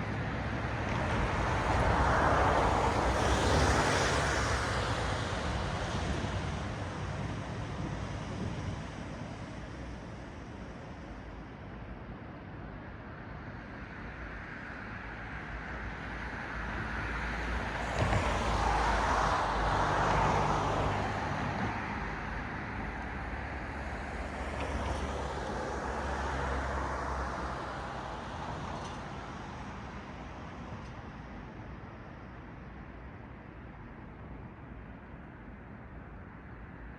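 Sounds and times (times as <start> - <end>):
cars passing on road: 0.0 - 36.9.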